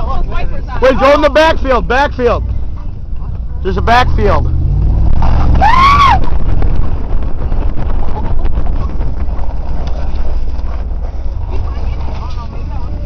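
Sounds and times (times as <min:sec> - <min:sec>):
truck engine rumbling: 0:00.0 - 0:13.0
wind buffeting microphone: 0:00.0 - 0:13.0.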